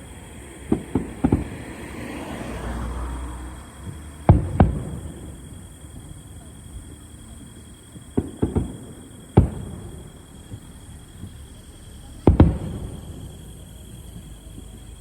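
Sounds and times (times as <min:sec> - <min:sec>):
fireworks booming overhead: 0:00.0 - 0:15.0.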